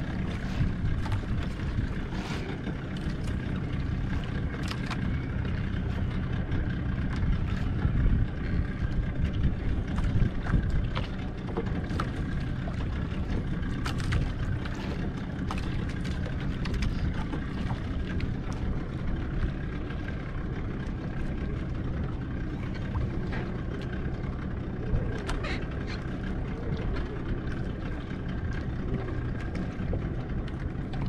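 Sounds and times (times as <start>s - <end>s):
water washing around boat: 0.0s - 31.0s
wind rumble on microphone: 0.0s - 31.0s.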